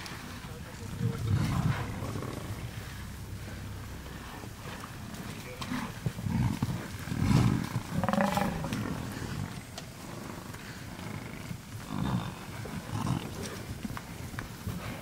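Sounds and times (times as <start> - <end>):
deep animal growls and grunts: 0.7 - 13.7.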